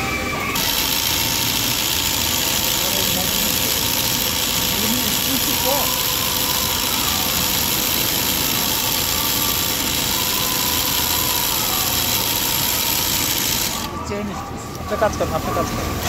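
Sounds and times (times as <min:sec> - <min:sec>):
sewing machine running: 0:00.0 - 0:14.0.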